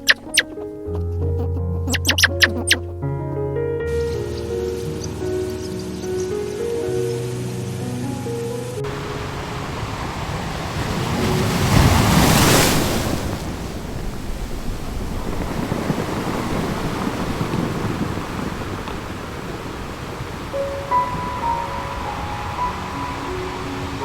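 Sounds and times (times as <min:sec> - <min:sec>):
waves washing in: 0:00.0 - 0:01.0, 0:01.9 - 0:02.9, 0:03.9 - 0:24.0.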